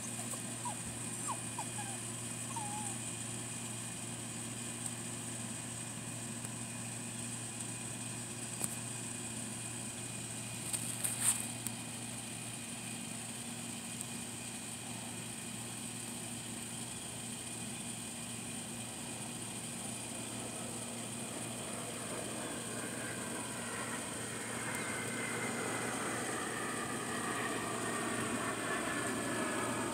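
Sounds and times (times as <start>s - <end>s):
distant motor hum: 0.0s - 29.9s.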